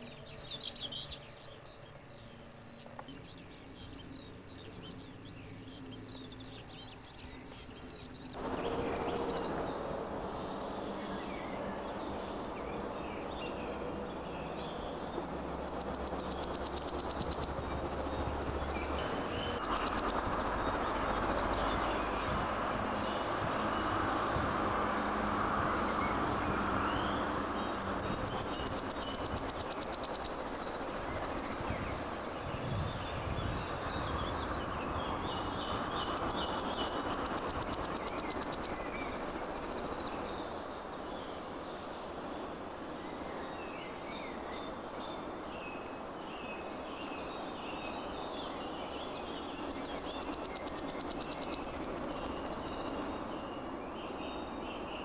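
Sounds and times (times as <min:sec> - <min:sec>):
faint bird chirps: 0:00.0 - 0:22.3, 0:26.8 - 0:55.0
songbird singing with buzzy trill: 0:00.0 - 0:55.0.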